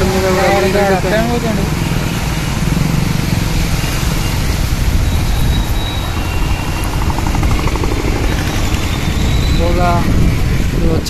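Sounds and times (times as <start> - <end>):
scooter engine: 0.0 - 10.6.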